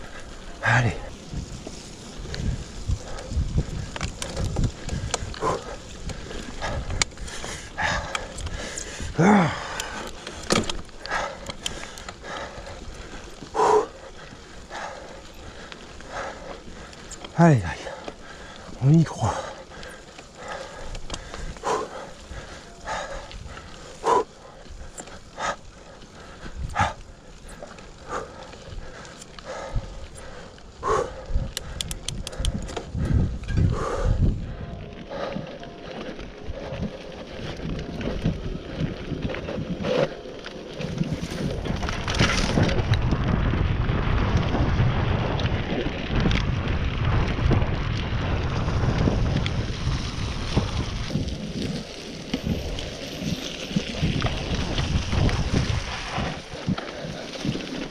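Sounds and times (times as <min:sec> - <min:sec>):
mountain bike rattling on trail: 0:00.0 - 0:57.9.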